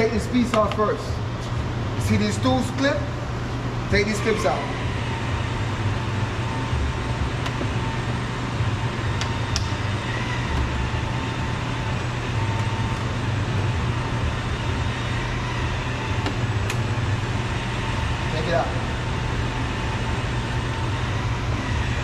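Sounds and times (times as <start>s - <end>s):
low droning hum: 0.0s - 22.0s.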